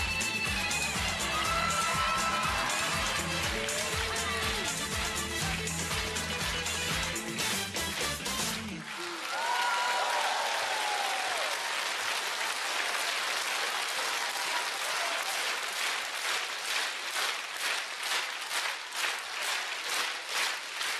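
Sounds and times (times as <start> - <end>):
rhythmic clapping in unison: 0.0 - 10.2, 10.8 - 20.9
audience applauding: 0.0 - 20.9.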